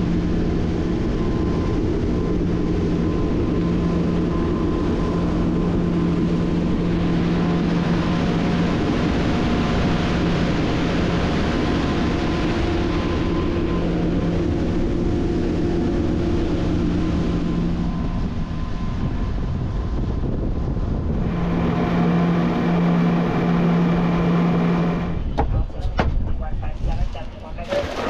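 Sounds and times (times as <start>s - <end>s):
boat engine running: 0.0s - 28.0s
rush of wind and water: 0.0s - 28.0s.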